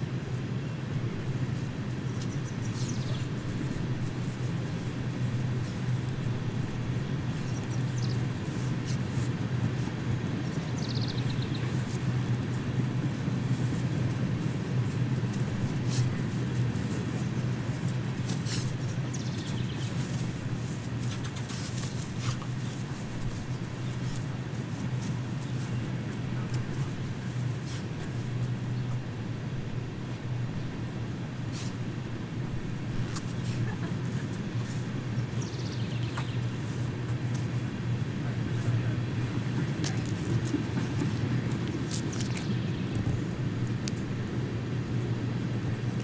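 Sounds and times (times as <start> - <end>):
low motor hum: 0.0 - 46.0
outdoor background haze: 0.0 - 46.0.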